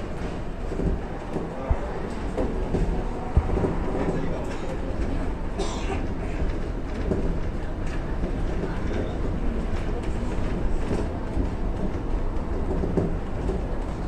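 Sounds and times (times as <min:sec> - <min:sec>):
electric train running on rails: 0:00.0 - 0:14.0.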